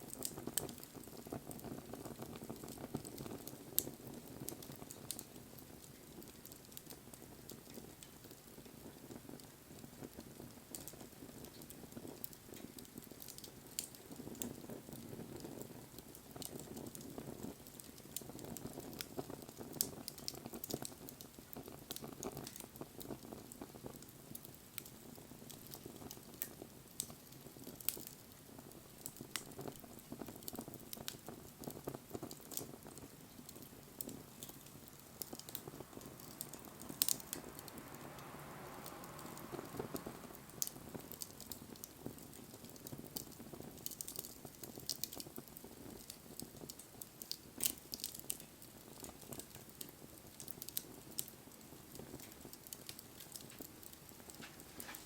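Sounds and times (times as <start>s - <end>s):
bonfire crackling and popping: 0.0s - 55.0s
soft hiss: 0.0s - 55.0s.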